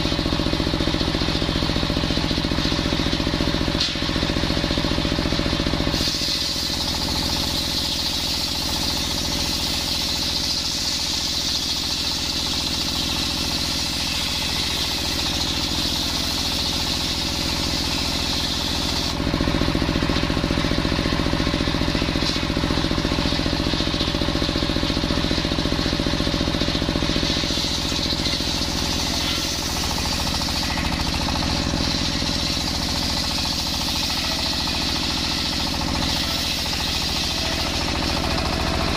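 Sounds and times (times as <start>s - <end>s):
circular saw cutting wood: 0.0s - 38.9s
engine chugging: 0.0s - 38.9s.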